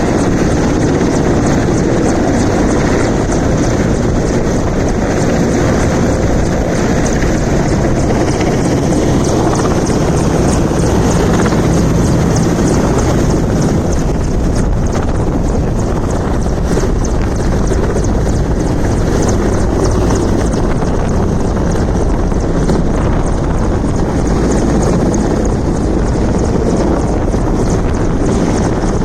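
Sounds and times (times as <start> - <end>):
helicopter rotor and engine: 0.0 - 29.0.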